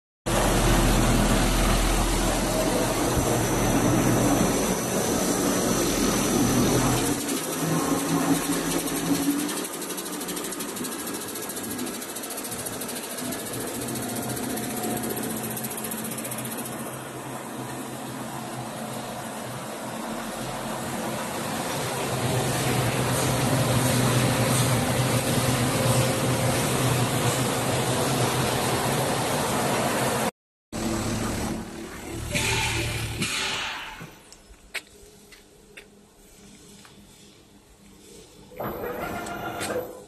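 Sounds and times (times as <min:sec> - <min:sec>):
machine whirring: 0:00.3 - 0:34.4.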